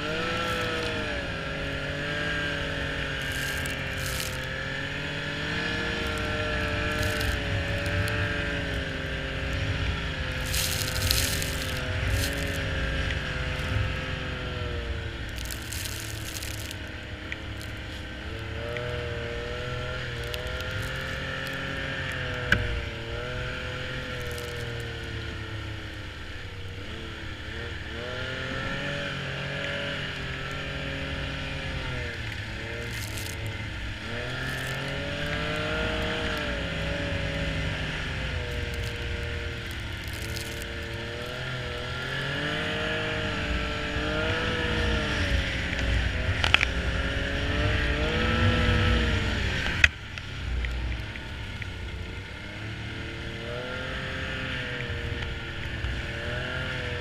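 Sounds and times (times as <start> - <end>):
snowmobile engine revving: 0.0 - 26.2, 26.8 - 49.9, 52.3 - 57.0.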